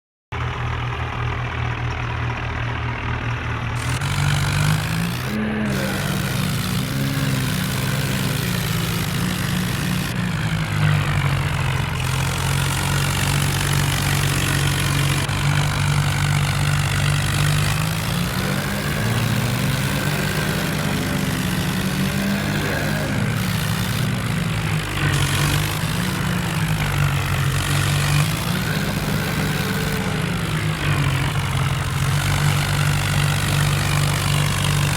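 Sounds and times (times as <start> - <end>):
tractor diesel engines straining: 0.4 - 34.9.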